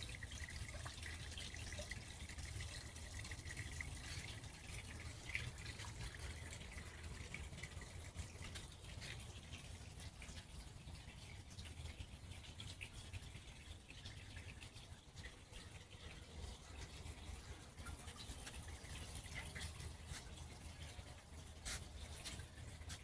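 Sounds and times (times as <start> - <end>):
water trickling and dripping: 0.0 - 23.0.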